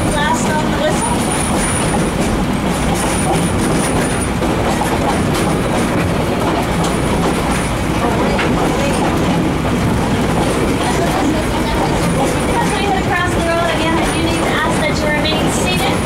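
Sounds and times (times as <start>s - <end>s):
railway car rumbling on track: 0.0s - 16.0s.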